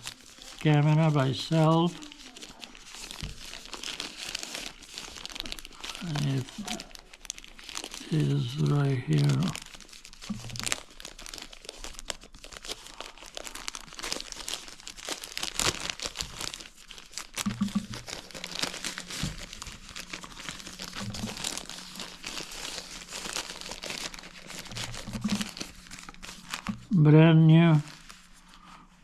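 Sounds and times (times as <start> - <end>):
packaging crinkling and rustling: 0.0 - 29.0.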